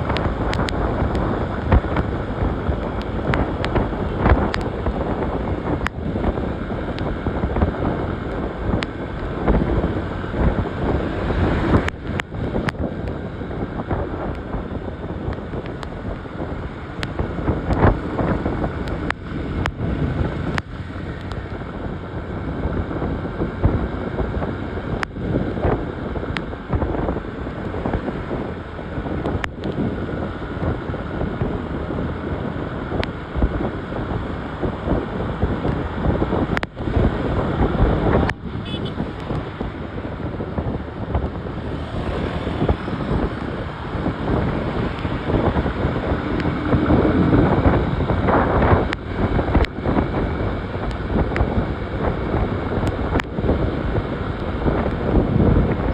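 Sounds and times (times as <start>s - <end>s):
motorcycle engine and road noise: 0.0s - 55.9s
wind buffeting microphone: 0.0s - 55.9s.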